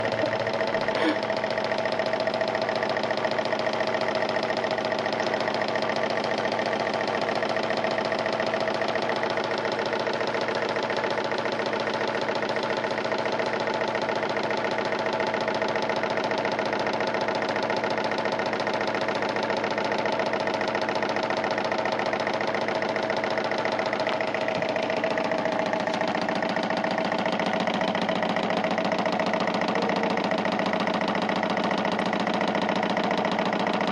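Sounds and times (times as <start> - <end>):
electric fan clattering: 0.0 - 33.9
electric fan hum: 0.0 - 33.9.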